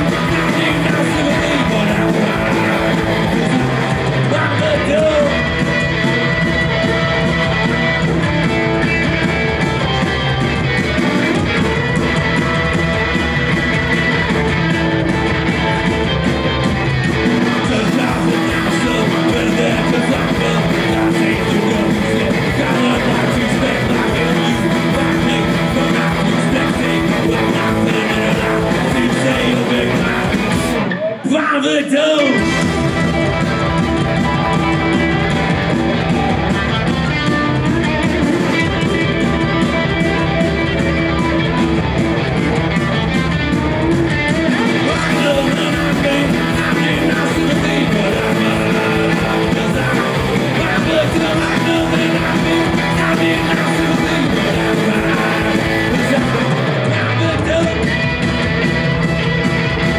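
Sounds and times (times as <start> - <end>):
electric guitar: 0.0 - 59.9
punk rock band playing: 0.0 - 59.9.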